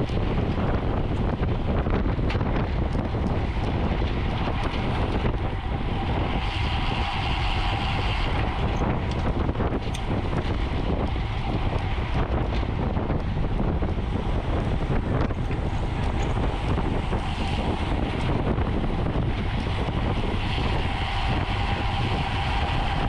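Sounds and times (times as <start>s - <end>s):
high whirring: 0.0s - 23.0s
wind rushing over microphone: 0.0s - 23.0s.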